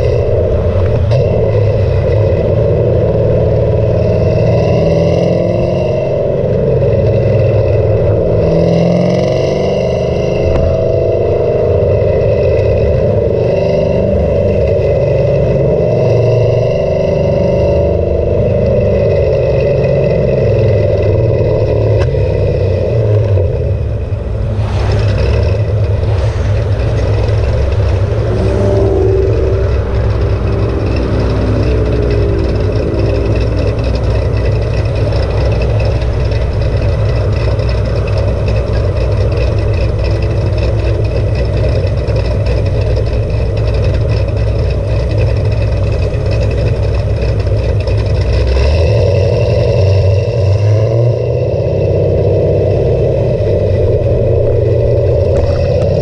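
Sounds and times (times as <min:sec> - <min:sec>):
car exhaust note: 0:00.0 - 0:56.0.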